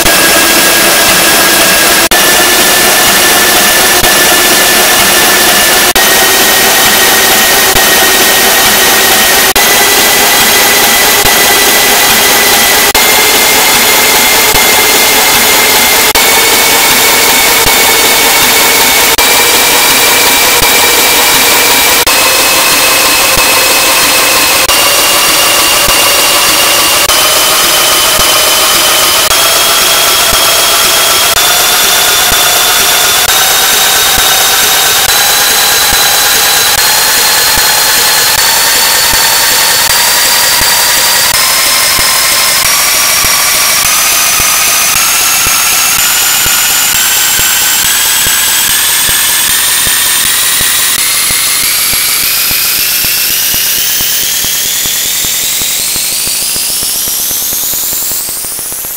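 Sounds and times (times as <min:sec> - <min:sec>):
harsh electronic noise with rising tone: 0:00.0 - 0:58.9.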